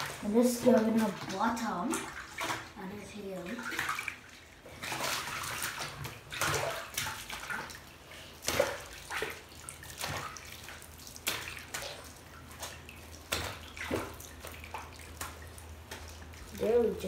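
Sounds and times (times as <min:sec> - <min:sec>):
bathwater splashing: 0:00.0 - 0:17.0.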